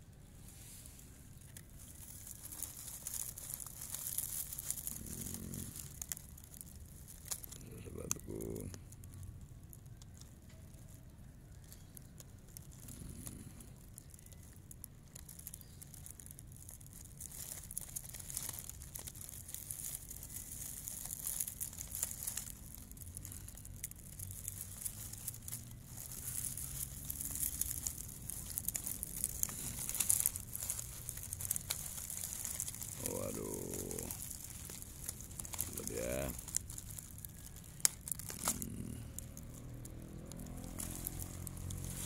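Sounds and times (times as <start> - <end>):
dry grass rustling and crackling: 0.0 - 42.0.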